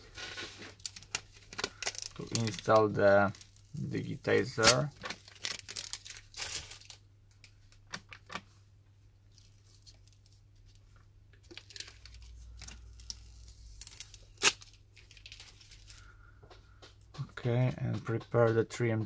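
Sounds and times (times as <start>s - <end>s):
plastic packaging crinkling: 0.0s - 8.6s, 9.3s - 16.1s.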